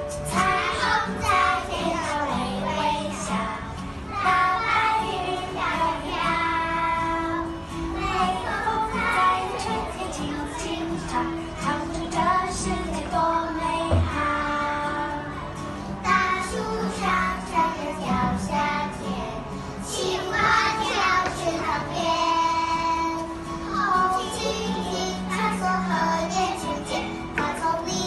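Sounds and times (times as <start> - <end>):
children singing: 0.0 - 28.0.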